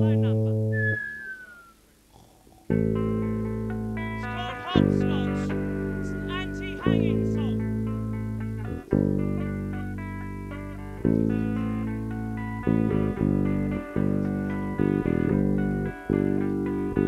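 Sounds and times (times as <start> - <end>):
rock band guitar chords: 2.7 - 17.0.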